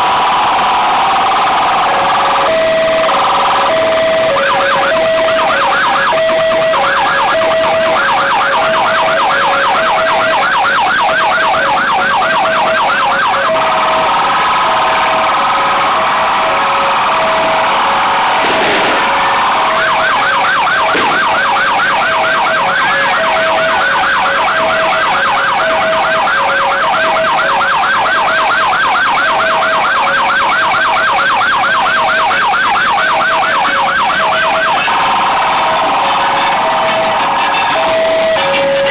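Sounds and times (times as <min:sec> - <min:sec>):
ambulance siren wailing and yelping: 0:00.0 - 0:38.9
second two-tone siren: 0:00.0 - 0:38.9.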